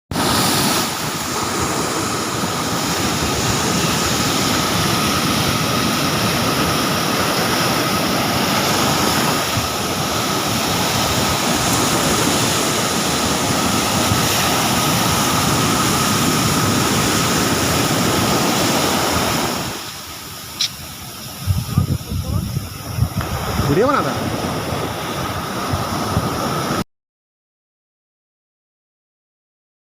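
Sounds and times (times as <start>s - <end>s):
sea surf washing onto beach: 0.1s - 26.8s.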